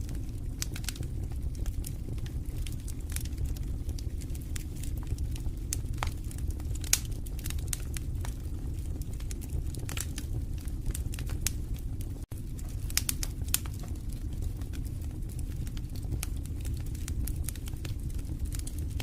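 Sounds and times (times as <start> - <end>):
low rumble of flames: 0.0 - 19.0
wood fire crackling: 0.0 - 19.0
sharp pops of fire: 0.1 - 11.6, 12.4 - 19.0.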